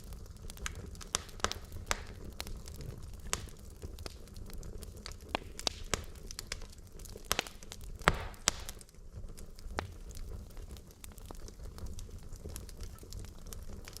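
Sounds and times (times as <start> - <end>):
logs crackling and popping: 0.0 - 14.0
low rumble of flame: 0.0 - 14.0.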